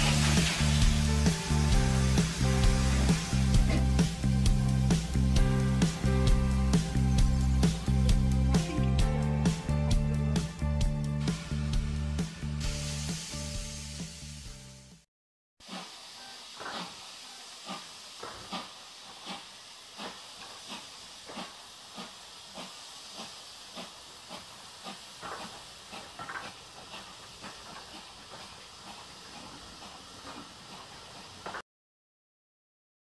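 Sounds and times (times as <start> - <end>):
steady steam hiss: 0.0 - 10.5, 11.2 - 15.0, 15.6 - 31.6
steam locomotive chuffing: 0.0 - 14.6, 15.6 - 31.6.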